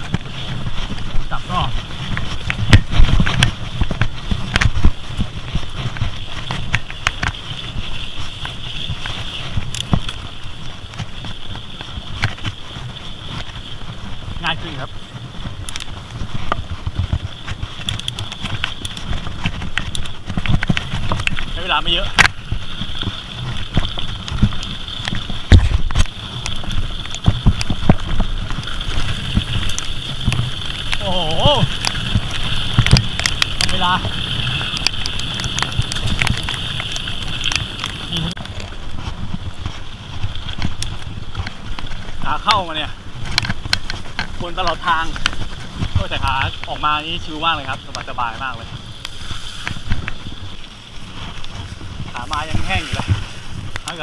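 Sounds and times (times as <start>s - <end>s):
bike frame rattling: 0.0s - 54.0s
bike tyres crunching on gravel: 0.0s - 54.0s.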